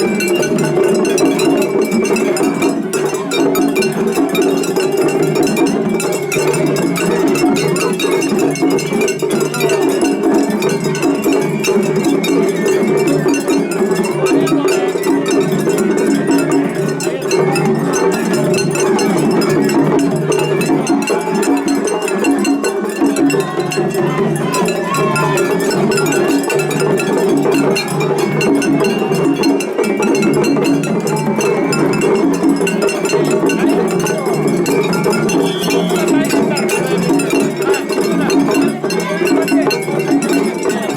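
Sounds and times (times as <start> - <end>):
festival music: 0.0 - 40.9
hand gongs clanging: 0.0 - 40.9.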